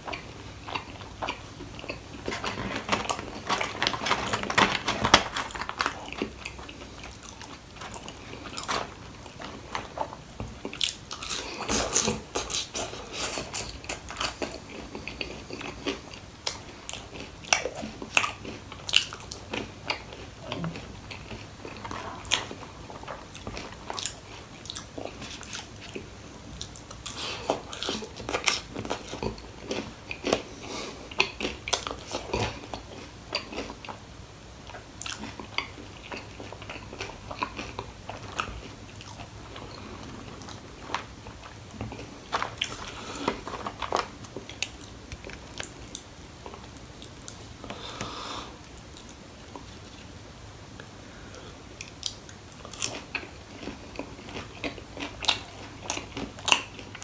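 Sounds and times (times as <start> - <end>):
person chewing crunchy food: 0.0 - 50.2, 51.8 - 57.0.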